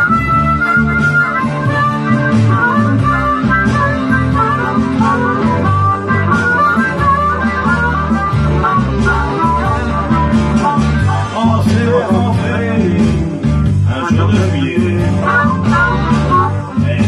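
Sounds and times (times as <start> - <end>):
electric guitar: 0.0 - 17.0
harmonica melody: 0.0 - 17.0.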